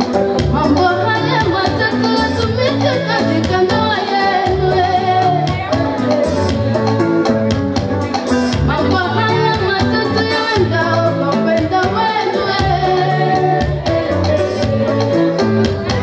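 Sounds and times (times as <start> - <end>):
upbeat dance music with singer: 0.0 - 16.0.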